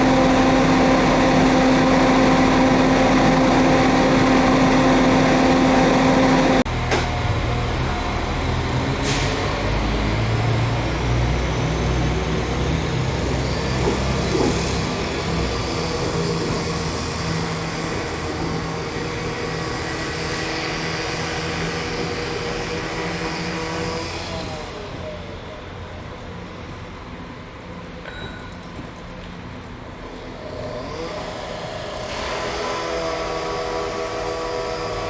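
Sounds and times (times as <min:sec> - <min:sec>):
train diesel engine drone: 0:00.0 - 0:35.0.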